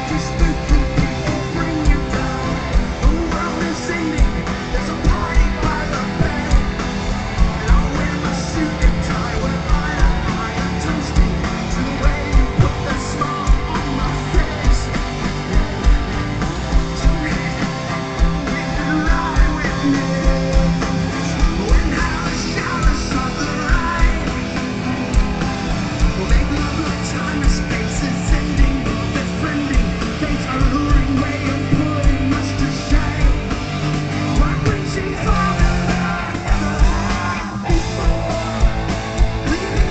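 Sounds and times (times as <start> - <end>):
drums beat: 0.0 - 39.9
electric guitar: 0.0 - 39.9
person singing: 0.0 - 39.9.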